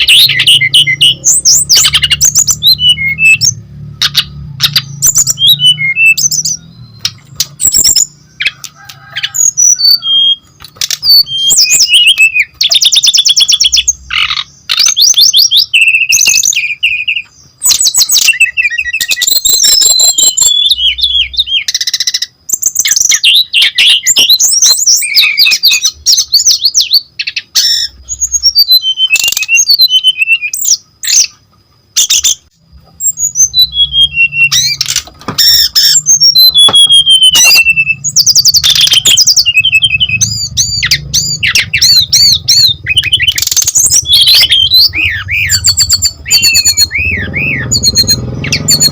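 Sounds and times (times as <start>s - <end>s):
bird singing trills and whistles: 0.0s - 48.9s.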